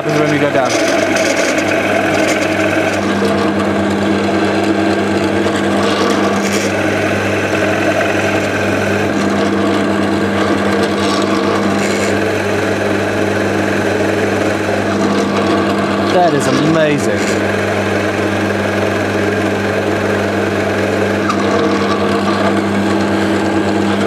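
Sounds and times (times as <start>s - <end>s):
drill bit boring into wood: 0.0s - 24.0s
drill motor humming: 0.0s - 24.0s.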